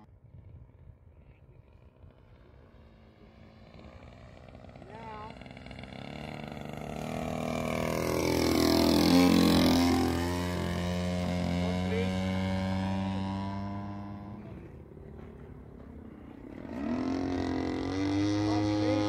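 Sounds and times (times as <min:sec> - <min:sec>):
model aeroplane engine flying past: 0:00.4 - 0:19.0.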